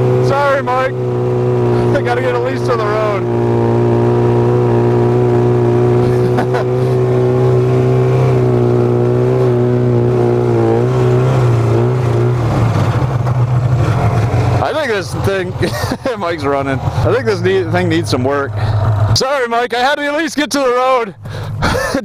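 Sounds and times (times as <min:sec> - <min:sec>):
snowmobile engine running: 0:00.0 - 0:22.0.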